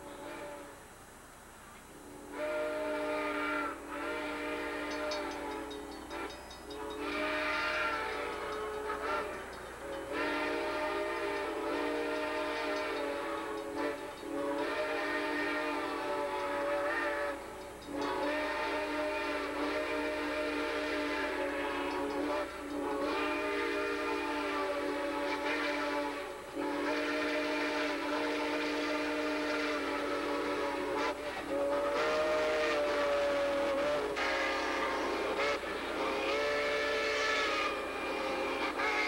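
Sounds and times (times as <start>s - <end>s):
steam whistle blasts: 0.0s - 1.0s, 1.9s - 39.0s.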